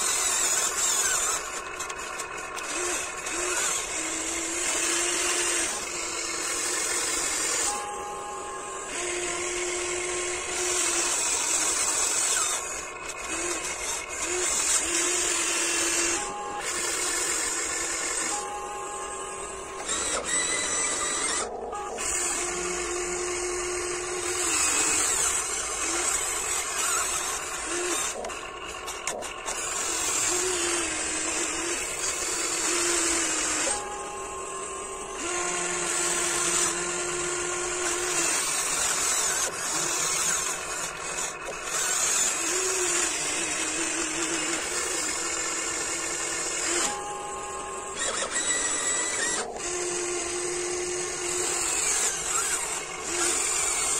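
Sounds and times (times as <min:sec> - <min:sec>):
electric motors and gears whining: 0:00.0 - 0:53.9.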